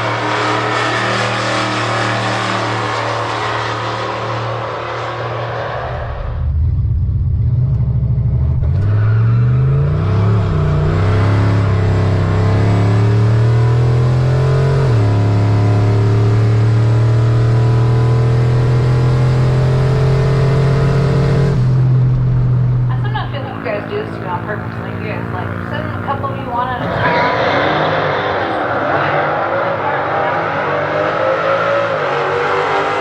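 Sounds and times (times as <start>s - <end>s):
drag car engine accelerating: 0.0s - 33.0s.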